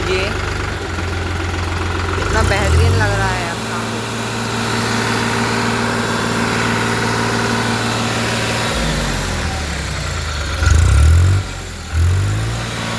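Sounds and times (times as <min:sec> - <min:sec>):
bulldozer diesel engine idling: 0:00.0 - 0:12.9.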